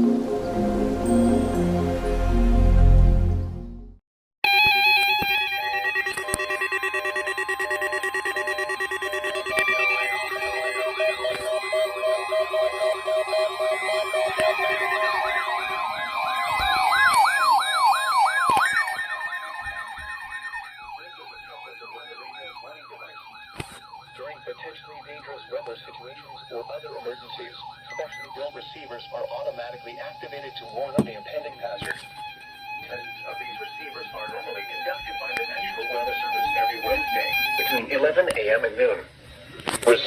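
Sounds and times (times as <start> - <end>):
electronic siren yelping: 4.4 - 37.9.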